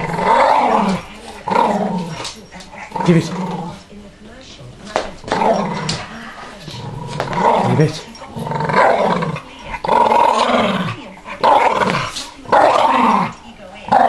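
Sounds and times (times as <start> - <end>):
dog play growling: 0.0 - 4.1, 4.7 - 14.0.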